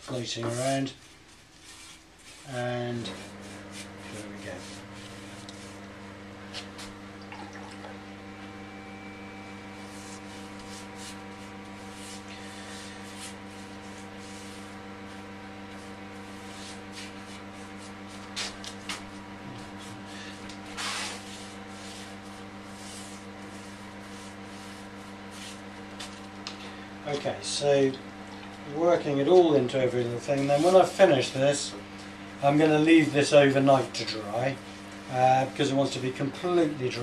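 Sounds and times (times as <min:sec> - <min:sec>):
brush strokes on wood: 0:00.0 - 0:07.0, 0:08.6 - 0:26.4, 0:28.9 - 0:37.0
steady electrical hum: 0:00.0 - 0:37.0.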